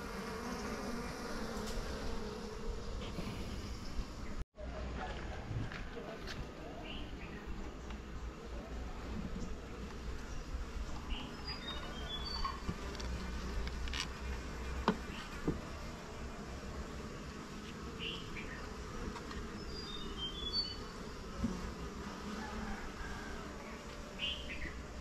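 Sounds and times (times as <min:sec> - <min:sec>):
bees buzzing: 0:00.0 - 0:04.4, 0:06.8 - 0:25.0.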